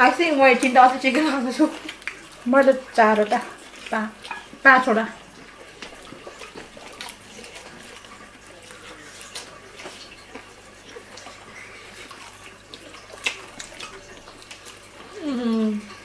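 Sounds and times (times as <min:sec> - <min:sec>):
clicks and crackles of eating: 0:00.0 - 0:16.0.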